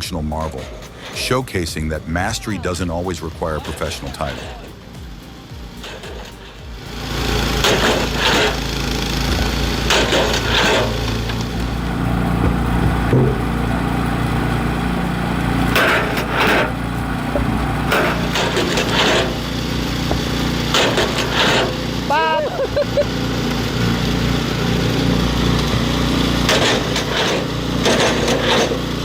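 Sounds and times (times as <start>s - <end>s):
firewood machine engine running: 0.0s - 29.0s
loud bursts of wood cutting: 0.0s - 29.0s.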